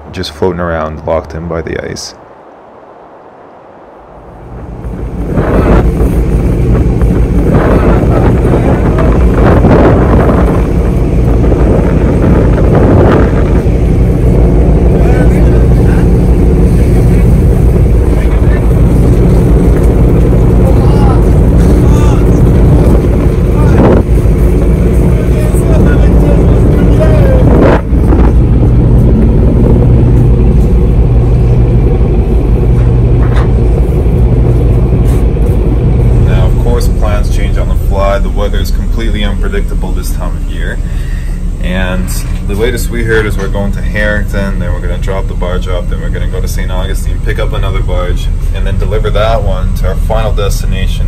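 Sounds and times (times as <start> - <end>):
diesel engine humming: 0.0 - 51.0
wind buffeting microphone: 0.0 - 51.0.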